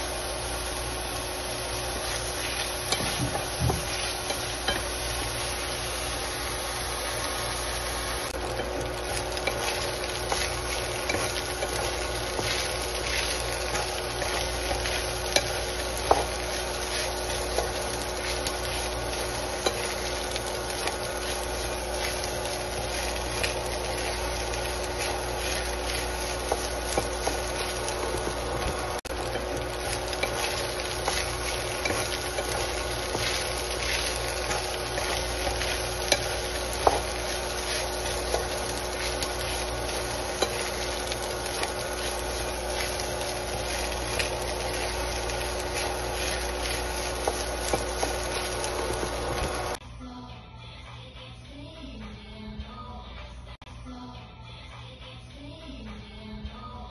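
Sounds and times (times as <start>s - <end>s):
rice sizzling in a pan: 0.0s - 49.8s.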